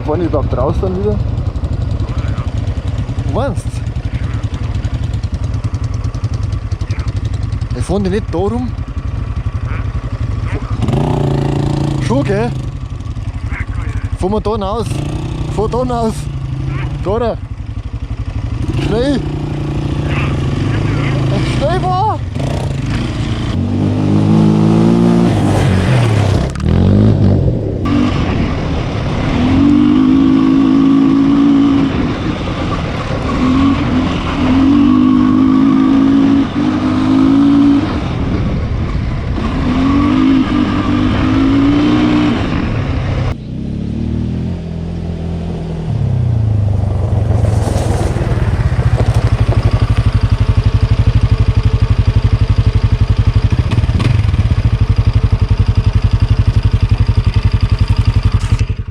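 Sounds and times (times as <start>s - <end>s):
quad engine revving: 9.4s - 17.4s, 18.3s - 58.9s.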